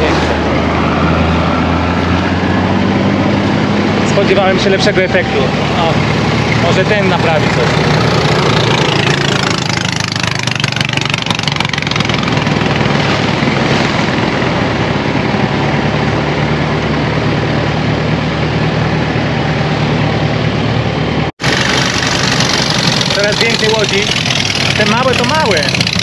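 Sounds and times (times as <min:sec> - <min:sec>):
boat engine running: 0:03.8 - 0:26.0.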